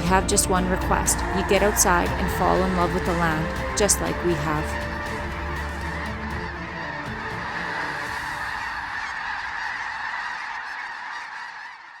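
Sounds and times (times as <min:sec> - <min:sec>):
flock of geese honking: 0:00.0 - 0:12.0.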